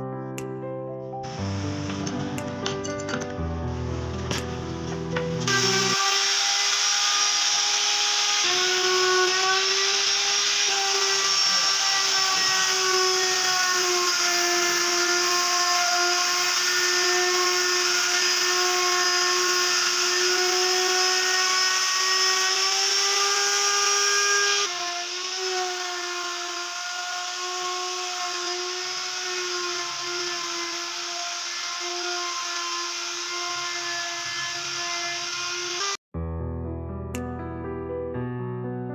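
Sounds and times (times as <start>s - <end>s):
wood router motor whine: 4.0s - 36.0s.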